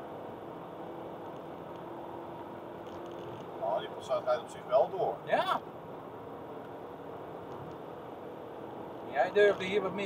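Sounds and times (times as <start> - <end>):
tyre and road noise on wet road: 0.0 - 10.0.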